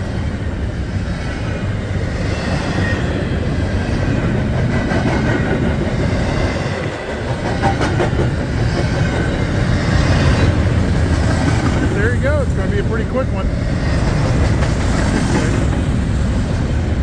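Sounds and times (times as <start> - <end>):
freight cars rumbling on rails: 0.0 - 17.0.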